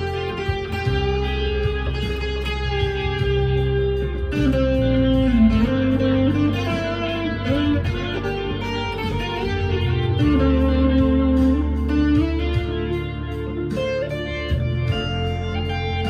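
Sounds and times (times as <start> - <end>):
overdriven electric guitar: 0.0 - 16.0.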